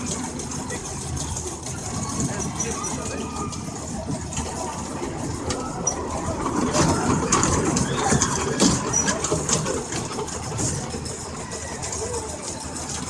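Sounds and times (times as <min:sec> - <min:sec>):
kiddie train rumbling and clattering: 0:00.0 - 0:13.0.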